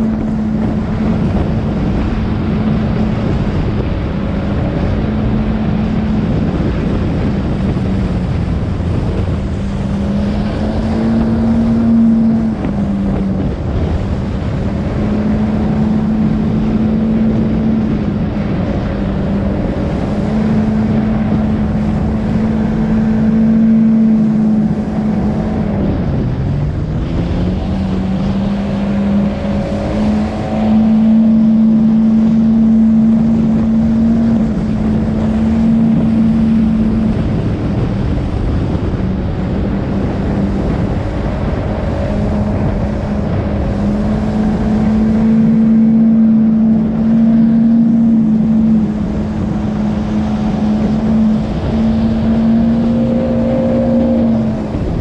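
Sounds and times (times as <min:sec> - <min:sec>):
motorboat engine running: 0:00.0 - 0:55.0
water rushing: 0:00.0 - 0:55.0
wind: 0:00.0 - 0:55.0.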